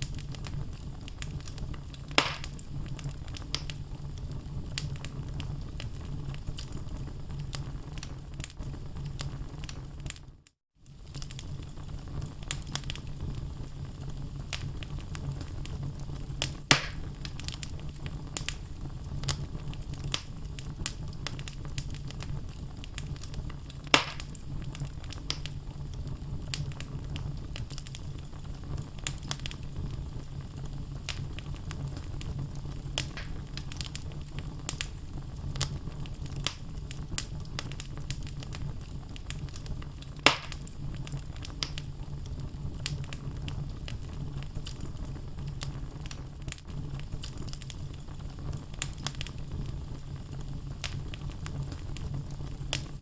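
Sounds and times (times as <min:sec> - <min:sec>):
fire crackling: 0:00.0 - 0:53.0
fire rumbling in fireplace: 0:00.0 - 0:53.0
loud fire pops: 0:00.0 - 0:53.0.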